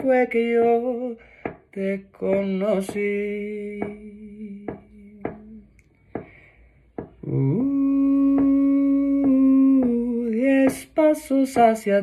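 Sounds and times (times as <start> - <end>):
man singing unaccompanied: 0.0 - 5.8, 7.0 - 12.0.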